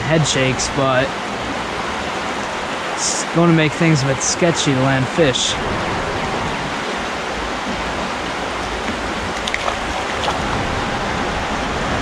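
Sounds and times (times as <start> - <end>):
creek water running over rocks: 0.0 - 11.6.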